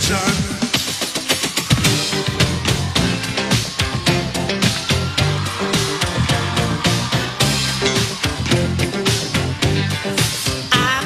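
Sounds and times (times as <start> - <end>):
funk rock band playing: 0.0 - 11.0
electric bass line: 1.9 - 11.0.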